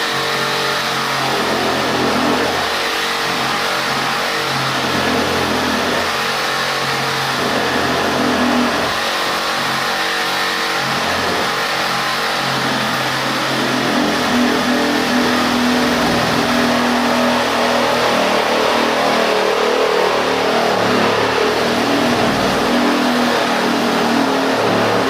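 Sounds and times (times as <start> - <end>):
reciprocating saw cutting brick: 0.0 - 25.0.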